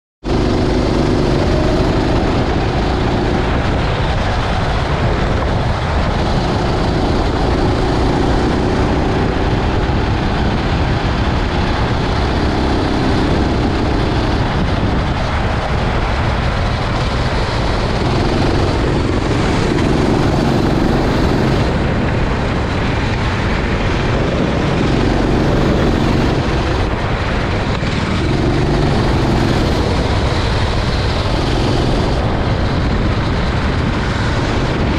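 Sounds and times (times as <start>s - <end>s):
go-kart engine racing: 0.2s - 34.9s
loud rushing noise: 0.2s - 34.9s.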